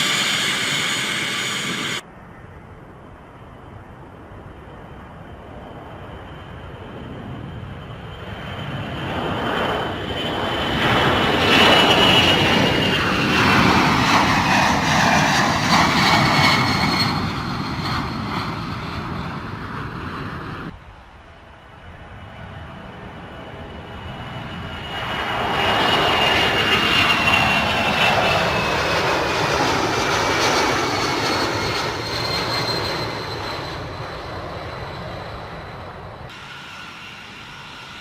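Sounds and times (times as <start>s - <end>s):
high engine whine: 0.0s - 2.1s, 4.6s - 38.0s
aircraft engines passing: 0.0s - 38.0s.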